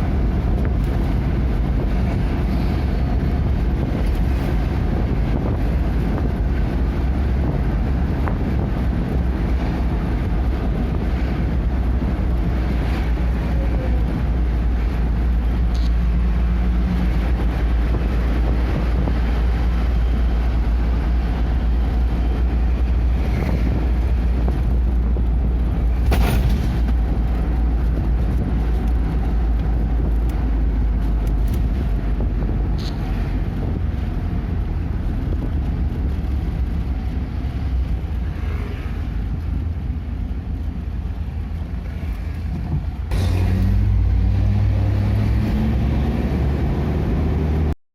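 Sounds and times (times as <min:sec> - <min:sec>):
vehicle engine and road noise: 0:00.0 - 0:47.8.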